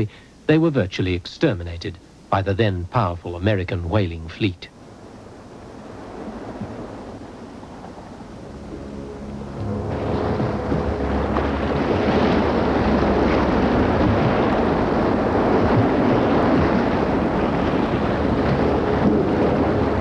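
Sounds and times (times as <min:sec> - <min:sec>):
churning water rushing: 0:00.0 - 0:20.0.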